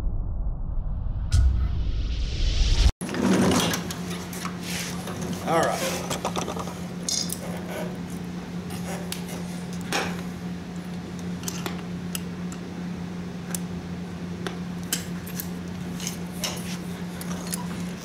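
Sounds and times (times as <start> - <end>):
steady low hum: 3.5 - 18.0.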